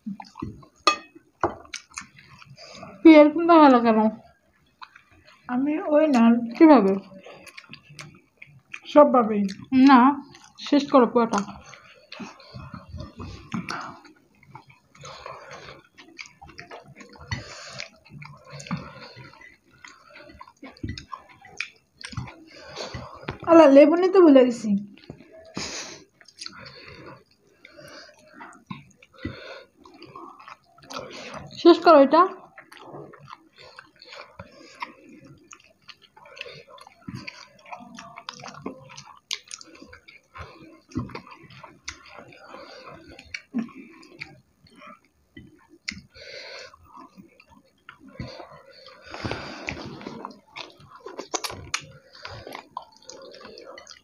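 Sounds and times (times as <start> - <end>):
people chewing food: 0.0 - 54.0.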